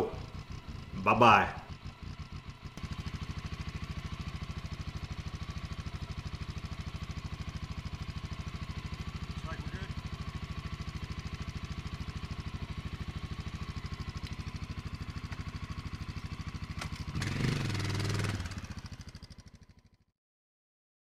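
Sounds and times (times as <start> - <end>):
motorcycle engine idling and revving: 0.0 - 20.1.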